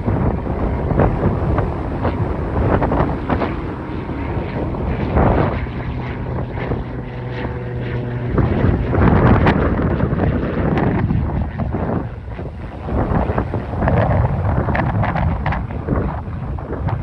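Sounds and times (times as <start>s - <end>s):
aircraft engine and propeller droning: 0.0s - 17.0s
wind buffeting microphone: 0.0s - 17.0s.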